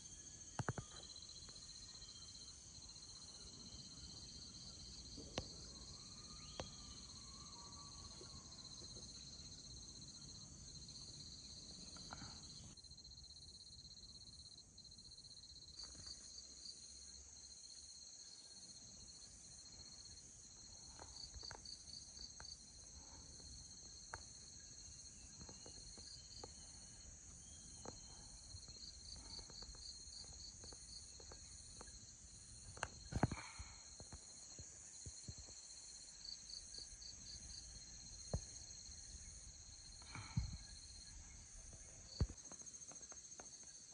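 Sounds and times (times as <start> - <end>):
insects trilling: 0.0 - 13.2, 14.5 - 43.9
rapid insect chirps: 0.0 - 43.9.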